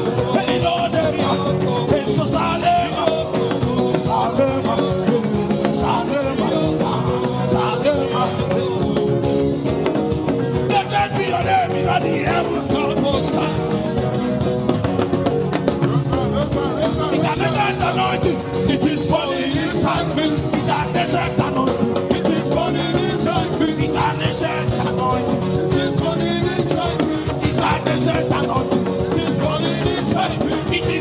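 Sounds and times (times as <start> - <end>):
band with drum kit: 0.0 - 31.0
voices singing: 0.0 - 31.0.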